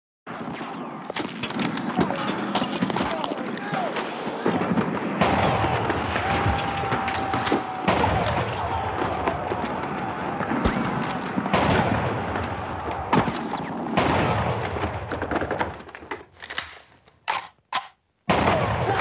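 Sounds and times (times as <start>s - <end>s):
rifle and machine-gun fire: 0.3s - 15.9s, 17.3s - 19.0s.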